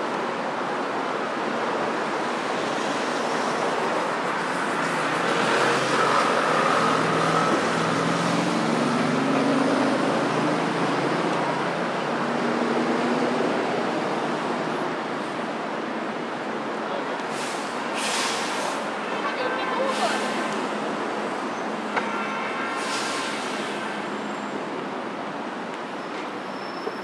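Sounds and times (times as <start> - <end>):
busy road traffic: 0.0 - 27.0.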